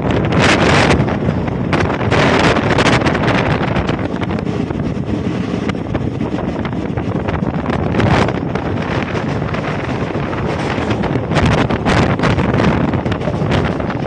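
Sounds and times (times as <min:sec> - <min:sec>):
train rumbling on track: 0:00.0 - 0:14.0
wind buffeting microphone: 0:00.0 - 0:14.0.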